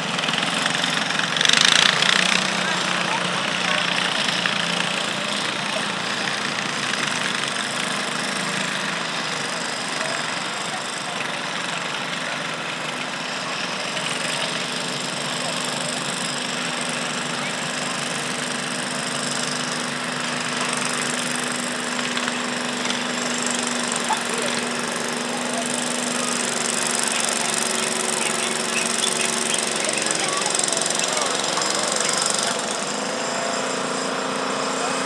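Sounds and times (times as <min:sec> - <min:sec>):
garden tractor engine humming: 0:00.0 - 0:35.0.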